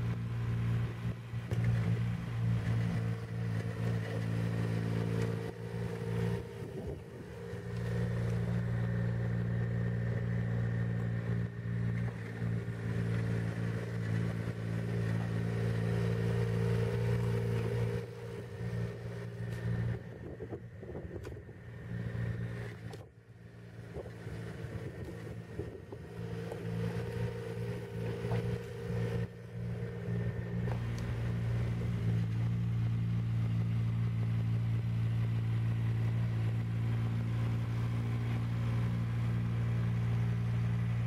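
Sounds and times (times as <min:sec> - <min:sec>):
excavator engine running: 0:00.0 - 0:41.0.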